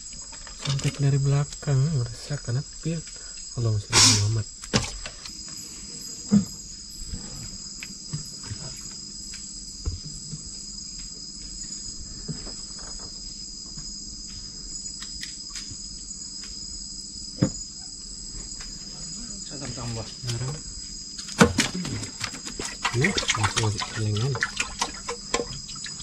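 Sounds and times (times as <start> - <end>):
crickets and insects chirping: 0.0 - 26.0.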